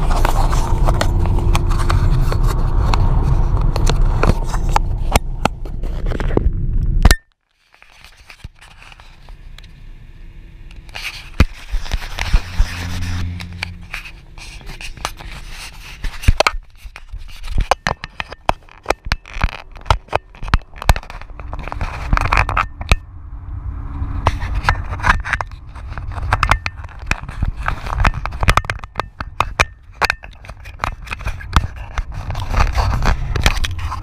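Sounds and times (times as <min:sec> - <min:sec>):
low road rumble: 0:00.0 - 0:34.0.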